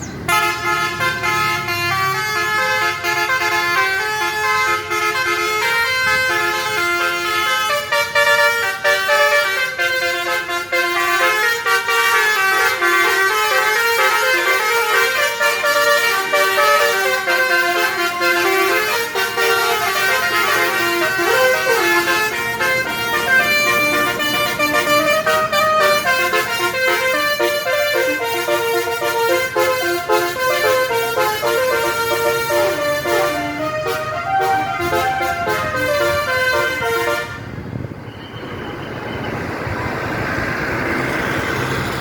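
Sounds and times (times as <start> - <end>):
bus melody horns playing tunes: 0.0 - 41.8.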